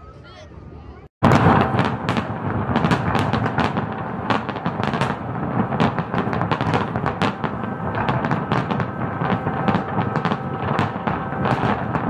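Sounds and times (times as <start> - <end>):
fireworks bangs and crackles: 1.2 - 12.0.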